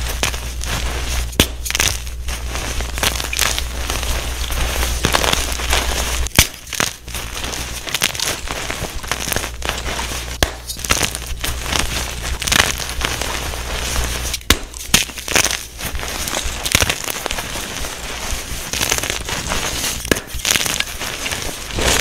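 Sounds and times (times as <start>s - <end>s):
chalk crunching between hands: 0.0s - 22.0s.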